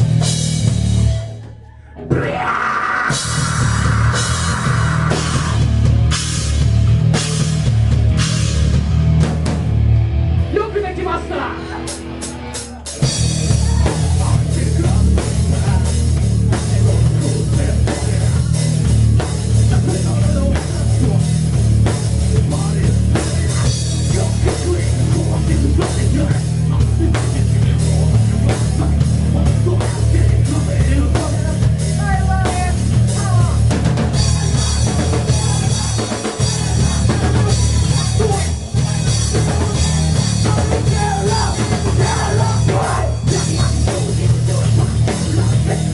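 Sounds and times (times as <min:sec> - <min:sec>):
hard-hit drum kit: 0:00.0 - 0:45.9
heavy rock band playing: 0:00.0 - 0:45.9.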